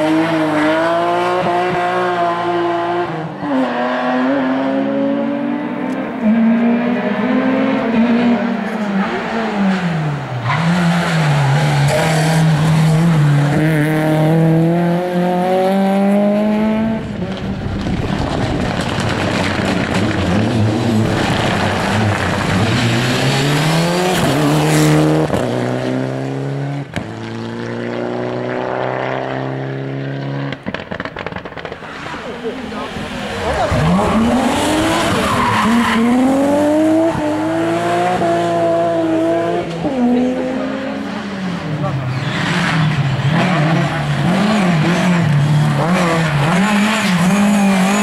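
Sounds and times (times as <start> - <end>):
rally car engines revving: 0.0 - 48.0.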